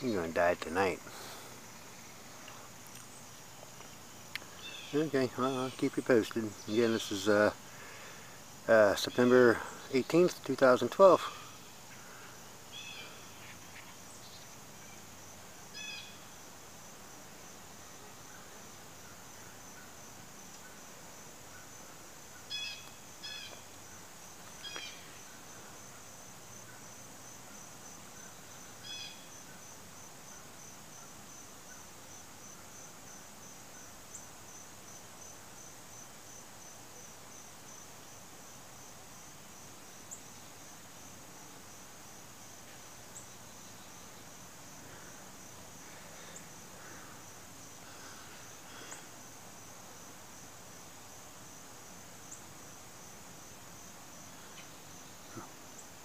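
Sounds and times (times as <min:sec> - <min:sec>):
cricket chirping: 0:00.0 - 0:56.0.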